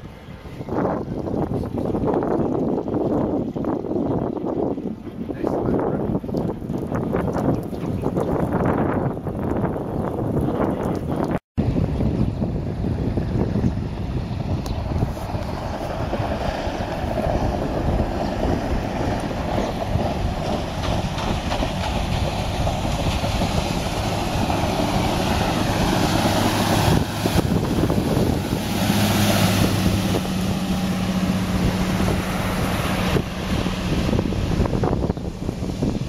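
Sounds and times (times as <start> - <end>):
choppy water: 0.0 - 36.0
outboard boat engine hum: 0.0 - 36.0
wind buffeting microphone: 0.0 - 36.0.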